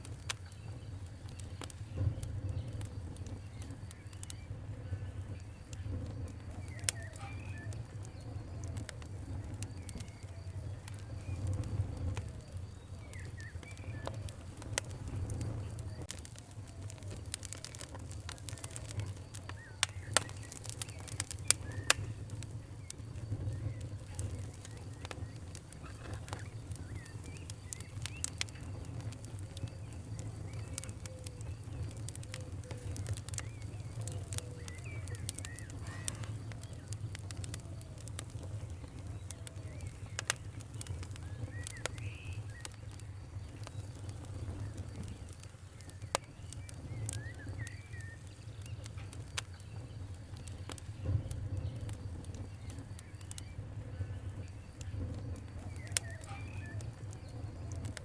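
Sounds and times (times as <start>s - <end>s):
fire crackling: 0.0s - 58.0s
faint bird calls: 0.2s - 58.0s.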